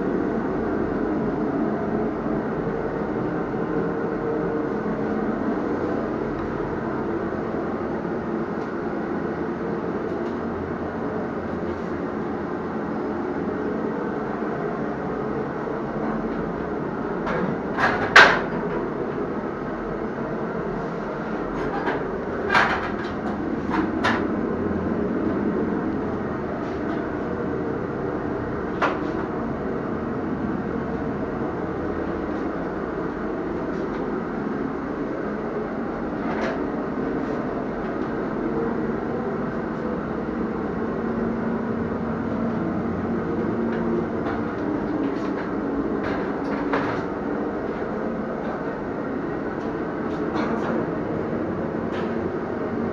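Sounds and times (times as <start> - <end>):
mechanical rumble: 0.0 - 52.9.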